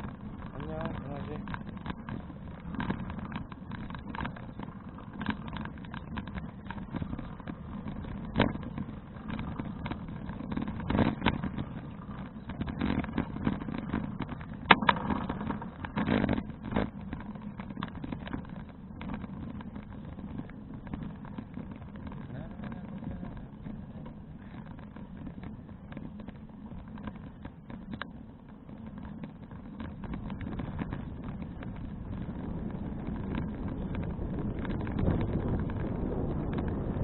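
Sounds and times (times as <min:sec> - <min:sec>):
bicycle knocks and rattles: 0:00.0 - 0:37.0
wind and road rumble: 0:00.0 - 0:37.0.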